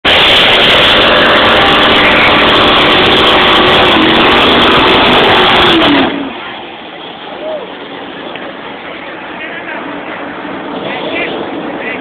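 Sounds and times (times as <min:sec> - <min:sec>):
racing engine at full throttle: 0:00.0 - 0:12.0.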